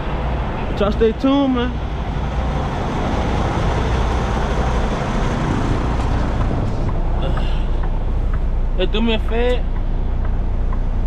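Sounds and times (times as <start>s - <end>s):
diesel truck engine droning: 0.0s - 11.0s
road and wind noise: 0.0s - 11.0s.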